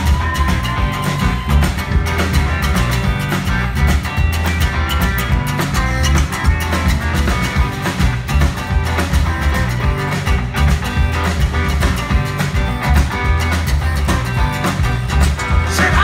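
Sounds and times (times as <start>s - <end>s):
blues band playing: 0.0s - 16.0s.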